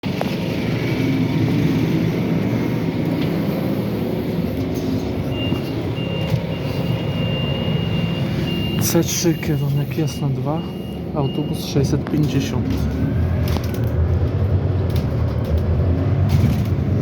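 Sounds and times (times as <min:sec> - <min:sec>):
bus engine low rumble: 0:00.0 - 0:17.0.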